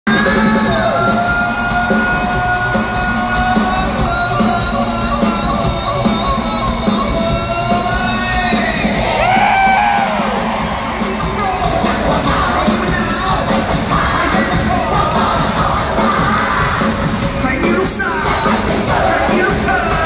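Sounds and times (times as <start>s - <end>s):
live band playing: 0.0s - 20.0s
singer's amplified voice: 0.0s - 20.0s
fans yelling: 0.1s - 20.0s.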